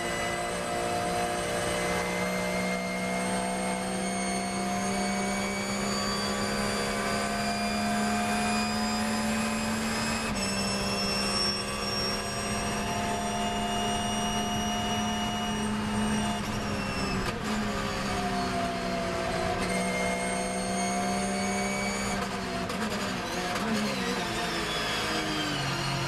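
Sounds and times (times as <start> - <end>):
racing engine at full throttle: 0.0 - 26.0.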